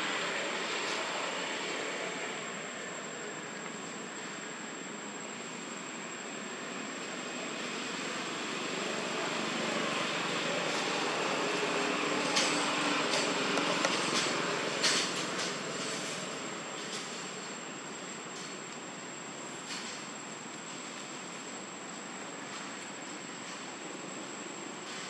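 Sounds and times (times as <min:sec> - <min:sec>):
distant engine drone: 0:00.0 - 0:24.9.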